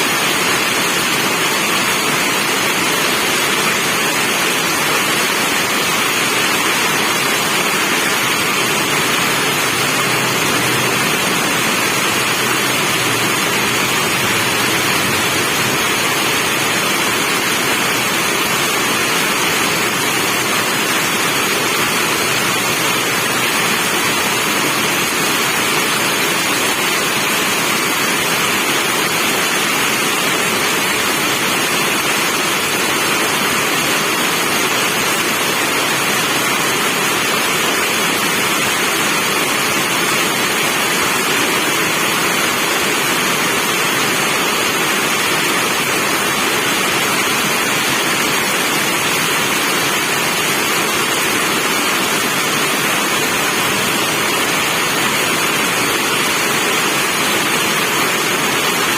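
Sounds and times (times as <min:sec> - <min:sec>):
steady rain falling: 0:00.2 - 0:58.9.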